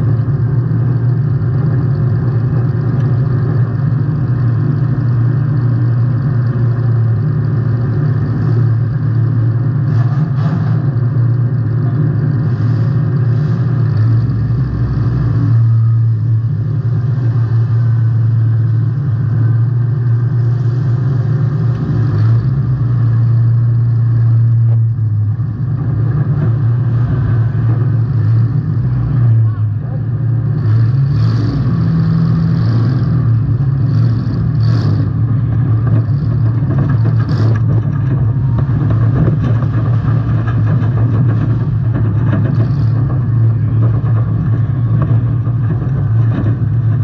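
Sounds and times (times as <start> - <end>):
car engine running loud: 0.0 - 47.0.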